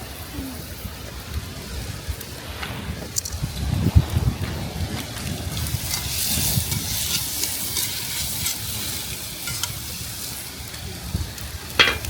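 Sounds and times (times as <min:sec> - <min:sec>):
campfire pops and crackles: 0:00.0 - 0:12.0
chicken sizzling: 0:00.0 - 0:12.0.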